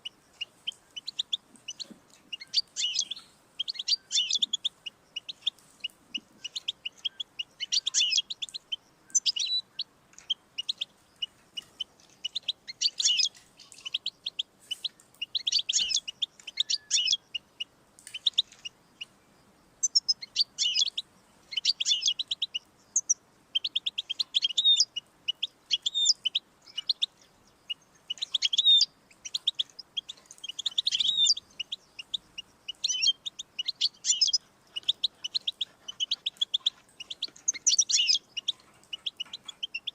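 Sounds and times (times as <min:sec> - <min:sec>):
goldfinch twittering song: 0:00.0 - 0:19.2, 0:19.8 - 0:39.9.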